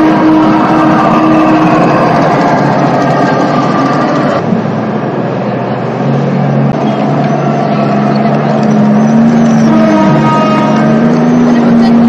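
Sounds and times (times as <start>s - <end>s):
dense background din: 0.0s - 12.0s
model trucks engine-like hum: 0.0s - 12.0s.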